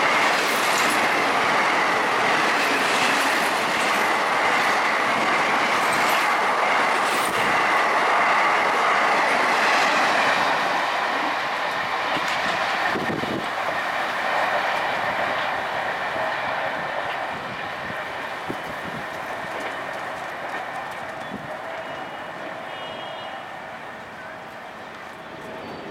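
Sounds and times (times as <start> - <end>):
train rushing past: 0.0 - 25.9.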